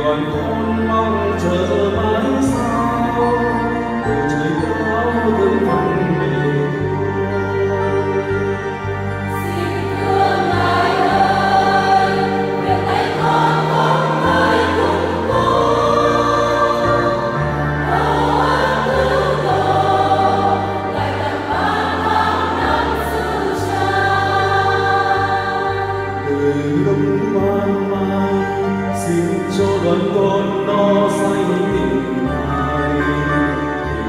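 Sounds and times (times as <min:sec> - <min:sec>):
church choir singing a hymn: 0:00.0 - 0:34.0
held low accompaniment notes: 0:00.0 - 0:34.0.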